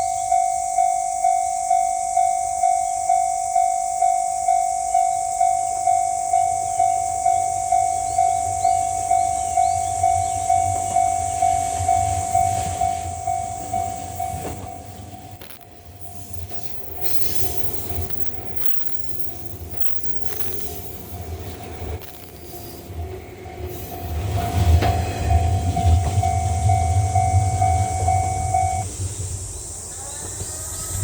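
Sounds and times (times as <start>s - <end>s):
level crossing bell ringing: 0.0s - 22.3s, 24.9s - 28.8s
low rumble of train: 0.0s - 31.0s.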